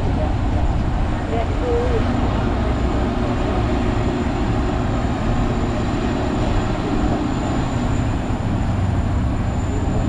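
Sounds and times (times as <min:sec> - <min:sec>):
tram low rumble: 0:00.0 - 0:10.0.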